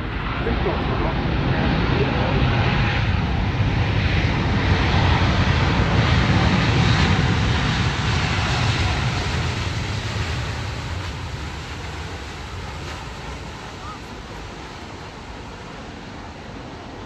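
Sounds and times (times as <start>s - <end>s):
jet airliner flying past: 0.0s - 17.0s.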